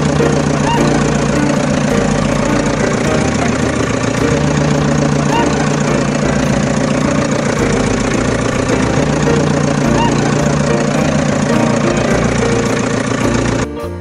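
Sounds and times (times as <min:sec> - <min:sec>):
loud engine-like running: 0:00.0 - 0:14.0.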